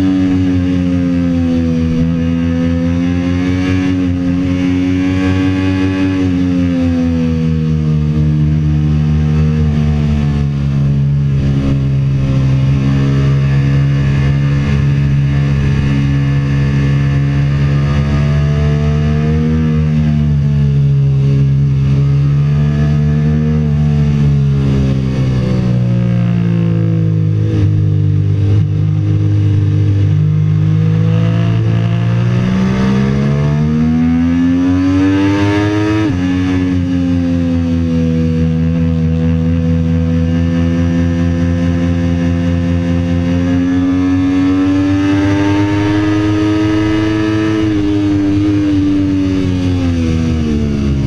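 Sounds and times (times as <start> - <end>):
motorcycle engine running hard: 0.0 - 51.0.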